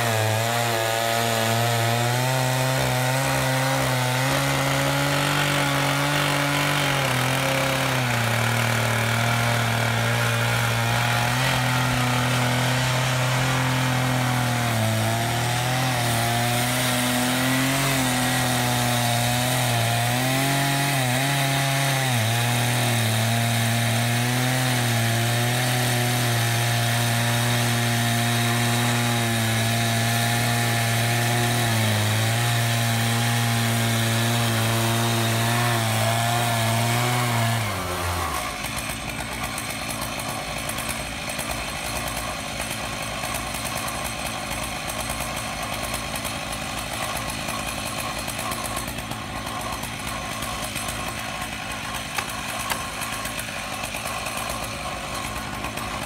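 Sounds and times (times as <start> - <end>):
chainsaws cutting through log: 0.0 - 56.0.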